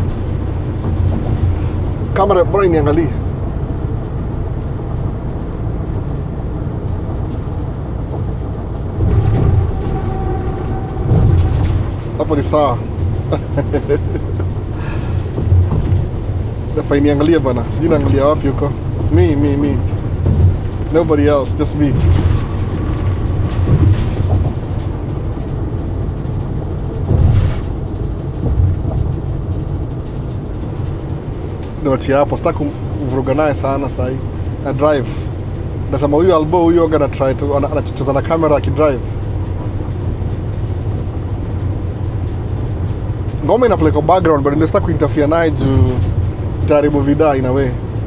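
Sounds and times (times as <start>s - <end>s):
car road and engine rumble: 0.0s - 48.0s.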